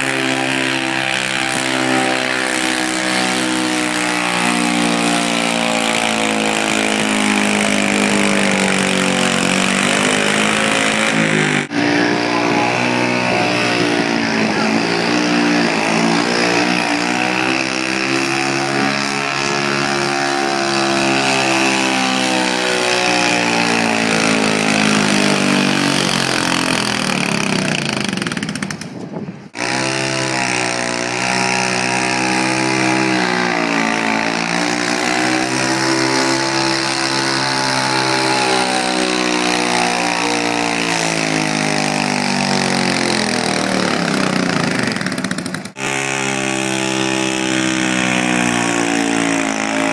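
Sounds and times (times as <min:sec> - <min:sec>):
tractor engine starting: 0:00.0 - 0:49.9
tractor engines revving: 0:00.0 - 0:49.9.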